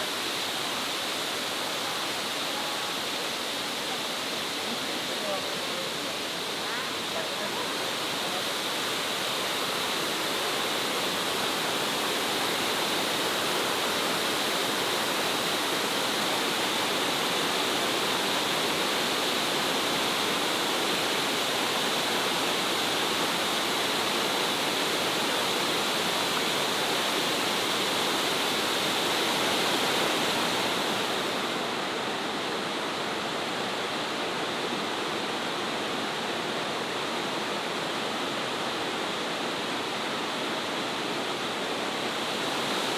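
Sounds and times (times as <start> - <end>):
waterfall rushing: 0.0 - 32.7, 39.6 - 42.9.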